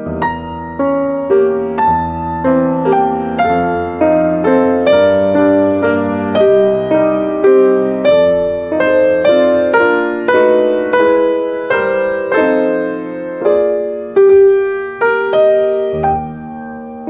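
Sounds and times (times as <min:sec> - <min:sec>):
soft slow piano melody: 0:00.0 - 0:17.0.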